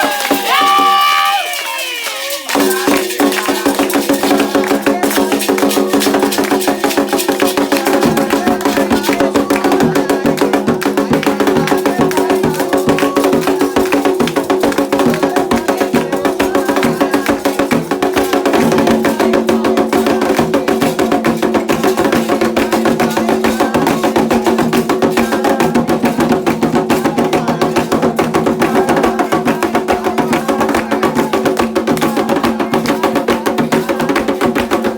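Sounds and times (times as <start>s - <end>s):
hand drums: 0.0s - 34.9s
struck bell percussion: 0.0s - 34.9s.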